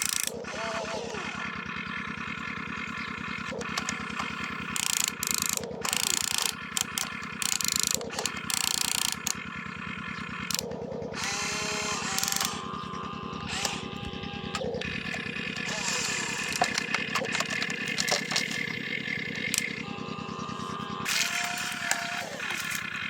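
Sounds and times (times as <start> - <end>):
model engine drone: 0.0 - 23.0
whining gear and motor: 0.0 - 23.0.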